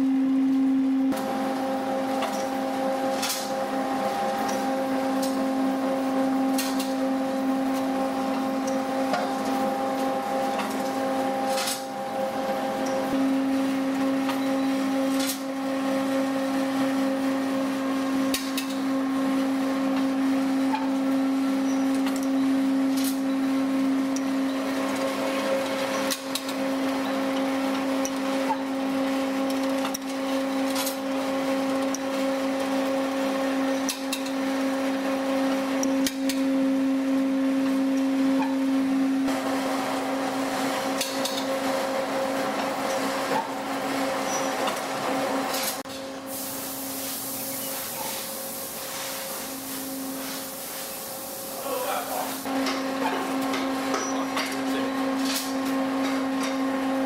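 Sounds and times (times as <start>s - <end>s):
machine motor hum: 0.0s - 57.0s.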